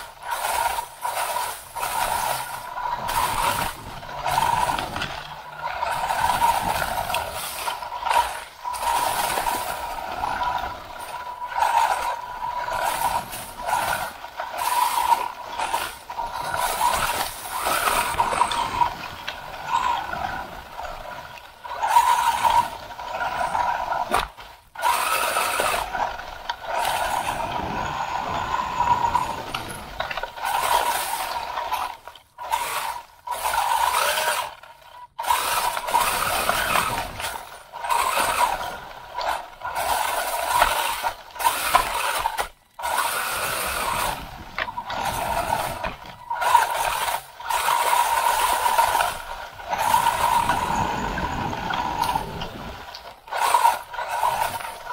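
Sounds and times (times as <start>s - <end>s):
rattling and rustling over grass: 0.0s - 54.9s
toy car electric motor whining: 0.0s - 54.9s.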